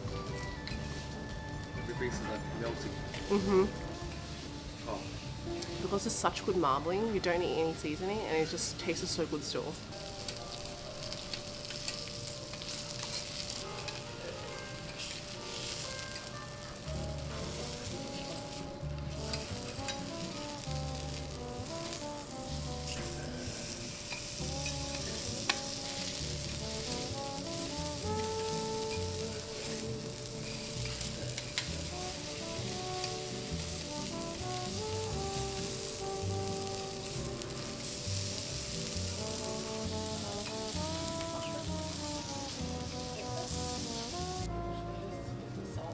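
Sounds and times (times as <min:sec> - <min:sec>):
background music: 0:00.0 - 0:45.9
steak sizzling on a hotplate: 0:00.0 - 0:45.9.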